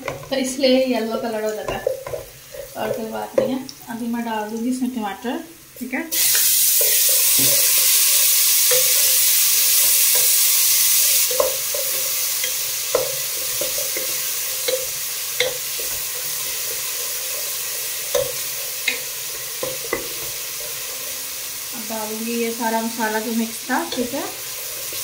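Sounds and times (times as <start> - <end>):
tomatoes sizzling in hot oil: 0.0 - 25.0.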